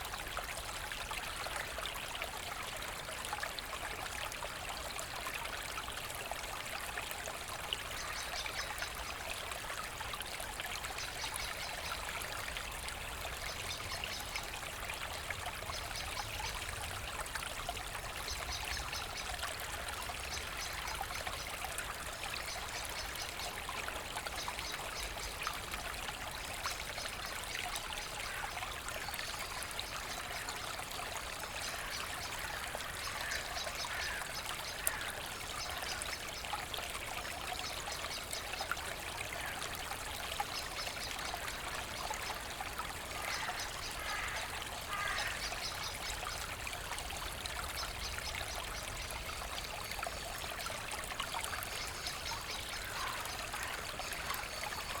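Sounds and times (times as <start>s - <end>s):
brook babbling: 0.0s - 55.0s.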